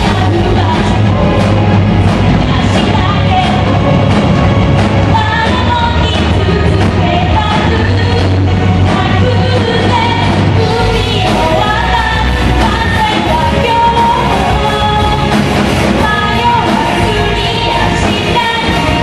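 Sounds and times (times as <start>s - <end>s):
electric guitar: 0.0s - 19.0s
live rock band playing: 0.0s - 19.0s
person singing into microphone: 0.0s - 19.0s.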